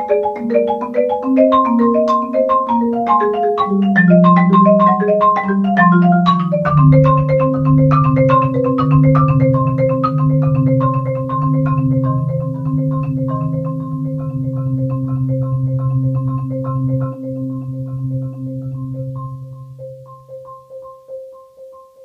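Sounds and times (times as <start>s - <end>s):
marimba repeated note: 0.0s - 20.6s
low rolled marimba notes: 0.0s - 22.0s.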